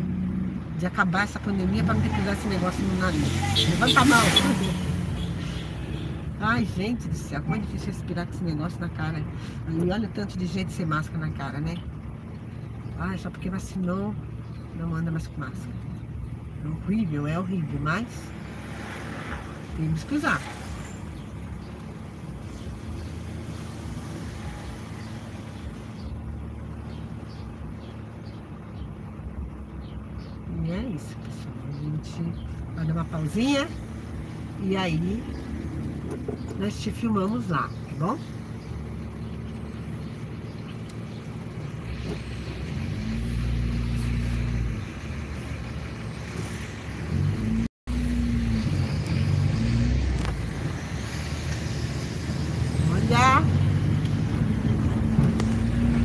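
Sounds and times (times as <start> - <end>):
car engine humming: 0.0 - 56.0
road noise: 0.0 - 56.0.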